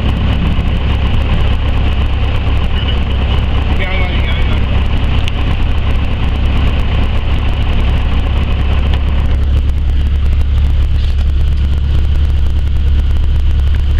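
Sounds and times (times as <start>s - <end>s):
light aircraft engine drone: 0.0s - 13.9s.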